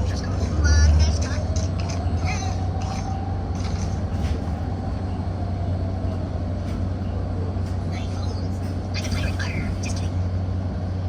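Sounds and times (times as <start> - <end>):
bus engine and road rumble: 0.0 - 11.0
faint drivetrain whine: 0.0 - 11.0.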